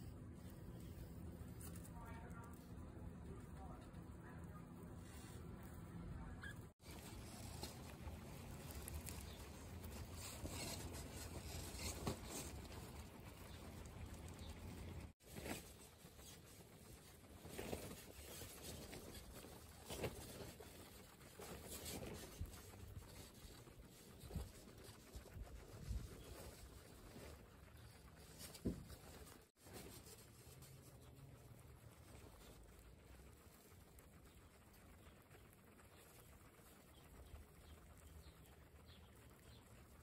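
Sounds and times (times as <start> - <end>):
grass and straw rustling: 0.0 - 38.4
guinea pigs chewing grass: 0.0 - 40.0.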